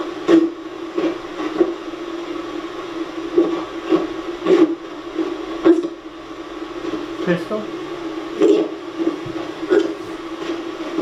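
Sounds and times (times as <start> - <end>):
buzzing hum from small speaker: 0.0 - 11.0.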